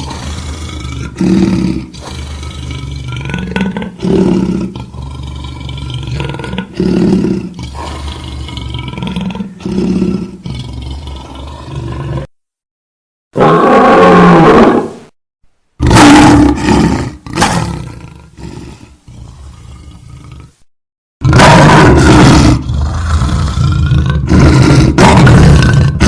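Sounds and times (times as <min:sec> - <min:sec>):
lion growling: 0:00.0 - 0:12.3, 0:15.8 - 0:20.6, 0:21.2 - 0:26.0
lion roaring: 0:00.0 - 0:12.3, 0:13.4 - 0:15.0, 0:15.8 - 0:20.6, 0:21.2 - 0:26.0.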